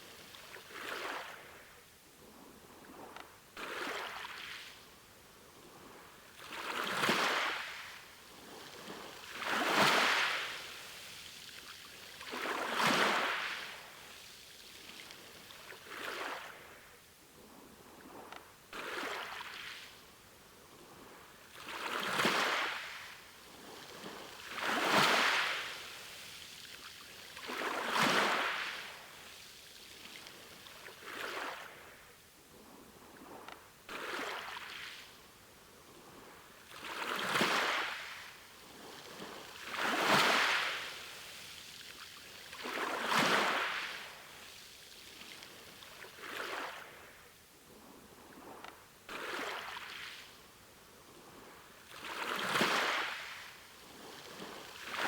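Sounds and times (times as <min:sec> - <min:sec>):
small sea waves washing in: 0:00.0 - 0:55.0.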